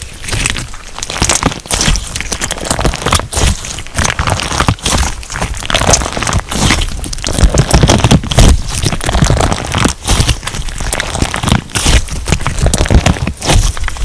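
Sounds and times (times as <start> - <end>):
slime crackling and popping: 0.0 - 14.0.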